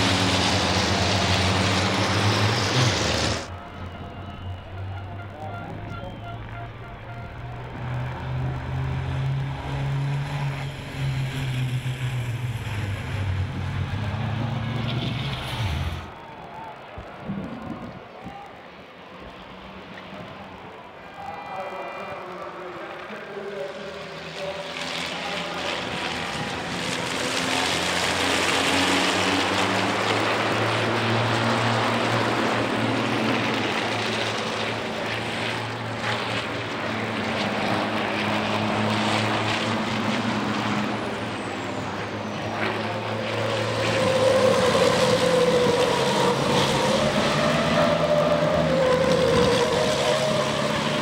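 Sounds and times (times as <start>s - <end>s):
diesel truck engines passing: 0.0s - 51.0s.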